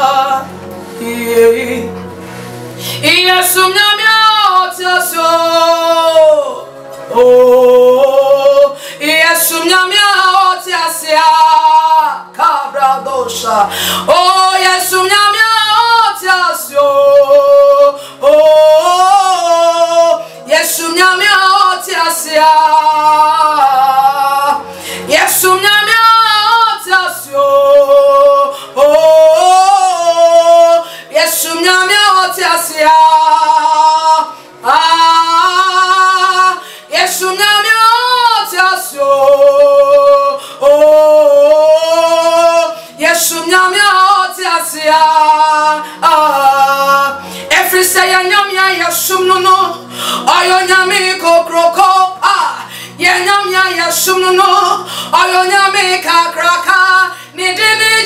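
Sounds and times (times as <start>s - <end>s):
woman singing: 0.0s - 2.0s, 2.9s - 58.0s
low held accompaniment notes: 0.0s - 58.0s.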